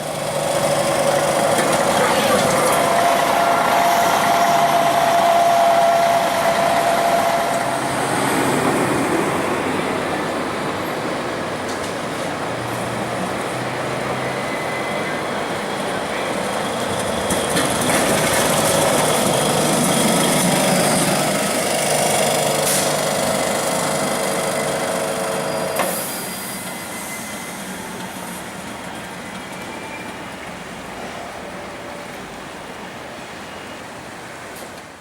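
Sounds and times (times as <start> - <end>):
tram motor whine: 0.0 - 34.5
tram wheels rumbling on rails: 0.0 - 35.0.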